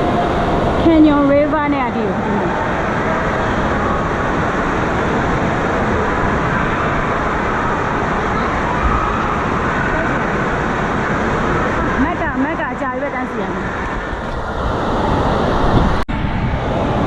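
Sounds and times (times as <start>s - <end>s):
distant echoing voices: 0.0s - 15.6s.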